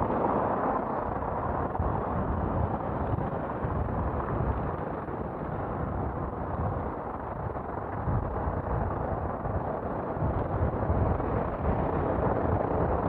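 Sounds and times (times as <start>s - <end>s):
road and traffic sound: 0.0s - 13.0s
wind buffeting microphone: 0.0s - 13.0s.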